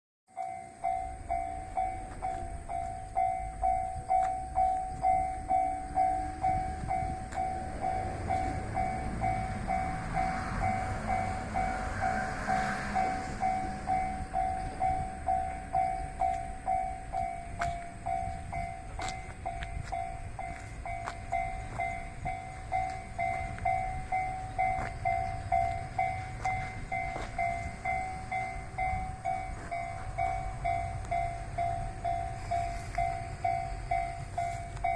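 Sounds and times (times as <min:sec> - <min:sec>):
level crossing alarm ringing: 0:00.3 - 0:34.9
train rumble: 0:00.3 - 0:34.9
wheels clicking over rail joints: 0:00.3 - 0:34.9.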